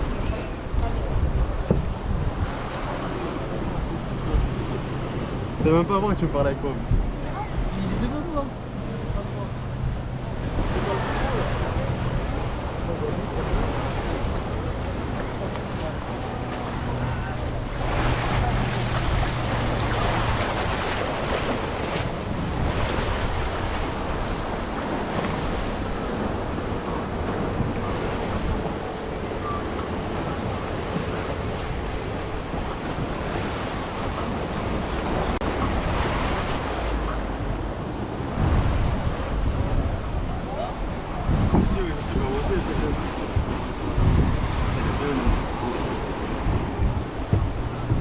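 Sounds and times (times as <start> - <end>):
waves washing onto beach: 0.0 - 48.0
wind buffeting microphone: 0.0 - 48.0.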